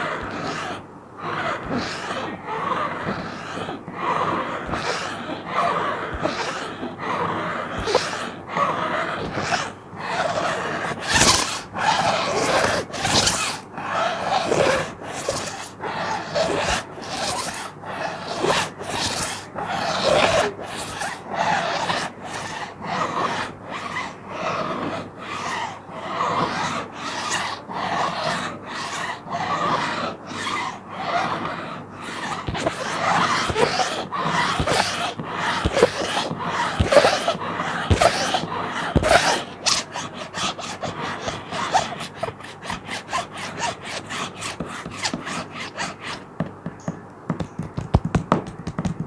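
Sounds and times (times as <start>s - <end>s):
fingernails scratching plastic: 0.0s - 49.0s.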